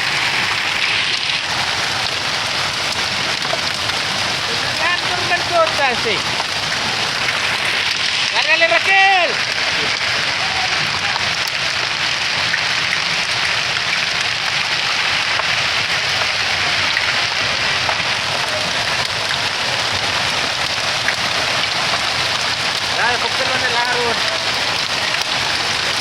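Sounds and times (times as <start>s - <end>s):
rain hissing: 0.0s - 26.0s.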